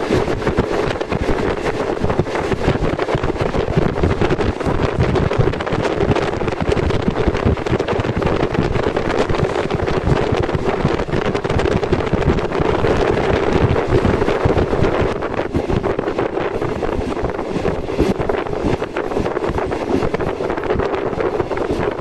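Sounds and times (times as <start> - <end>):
passenger train running: 0.0 - 22.0
wind buffeting microphone: 0.0 - 22.0.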